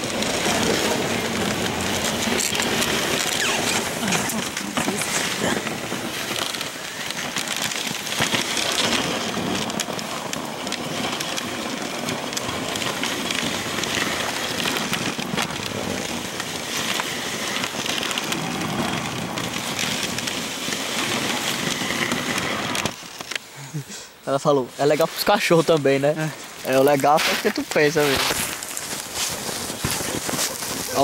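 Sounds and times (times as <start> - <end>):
sled runners crunching on snow: 0.0 - 31.0.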